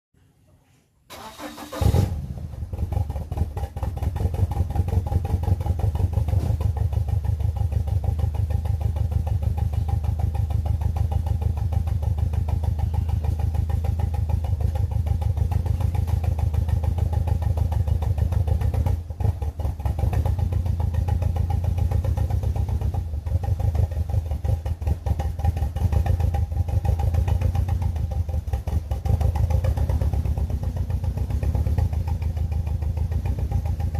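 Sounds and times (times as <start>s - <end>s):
car engine starting: 1.1s - 33.9s
misfiring engine idling: 1.1s - 33.9s.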